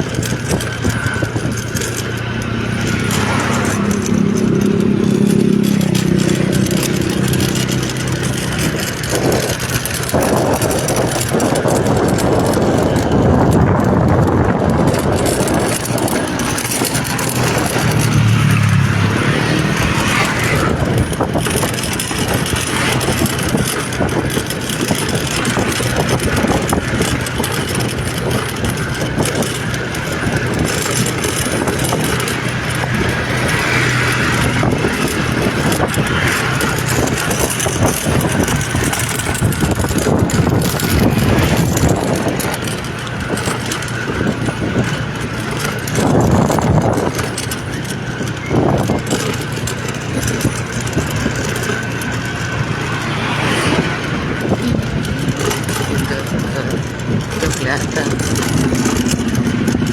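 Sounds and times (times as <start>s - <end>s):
road noise: 0.0s - 59.9s
vehicle engine humming: 0.0s - 59.9s.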